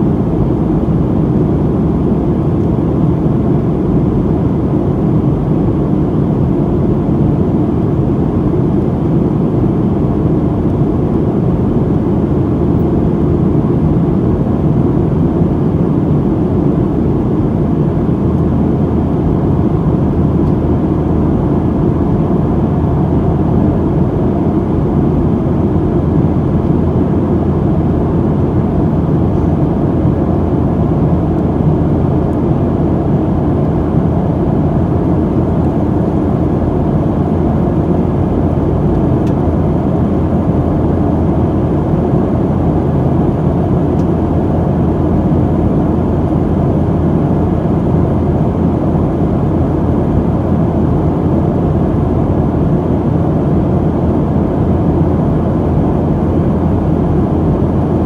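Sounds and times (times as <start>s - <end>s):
jet engine noise in aircraft cabin: 0.0s - 58.0s.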